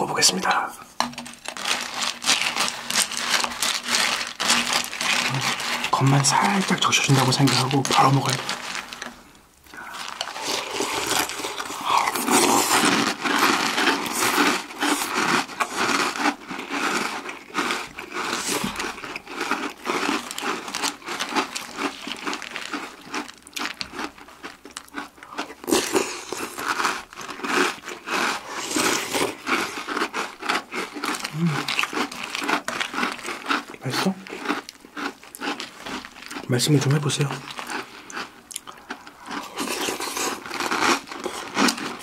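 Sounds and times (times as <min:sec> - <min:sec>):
people crunching cereal: 0:00.1 - 0:42.0.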